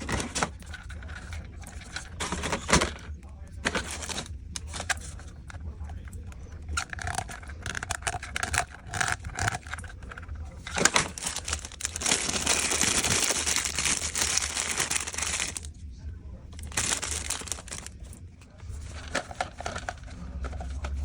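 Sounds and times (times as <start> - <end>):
plastic parts clicking and scraping: 0.0 - 15.7, 16.5 - 21.0.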